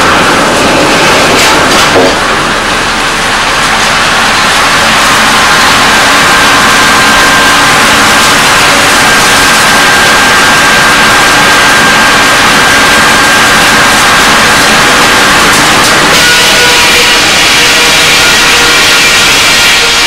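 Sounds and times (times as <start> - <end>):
high machine whine: 0.0 - 20.0
sawmill machinery running: 0.0 - 20.0.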